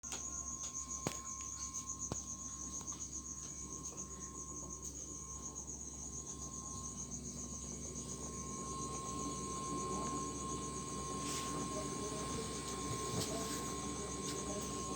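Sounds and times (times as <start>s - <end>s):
refrigerator pulsing whistle: 0.3s - 14.9s.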